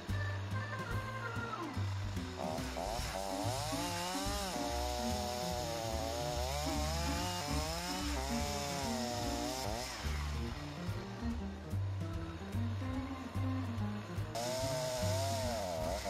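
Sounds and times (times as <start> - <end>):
chainsaw cutting log: 1.8 - 16.0.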